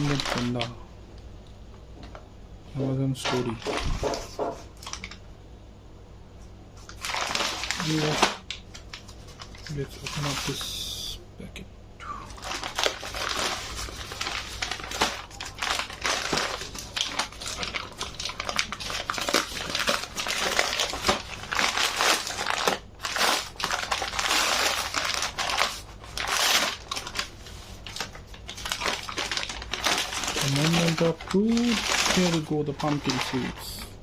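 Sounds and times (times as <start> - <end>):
packaging crinkling: 0.0 - 0.8, 3.2 - 5.2, 6.8 - 11.0, 12.2 - 34.0.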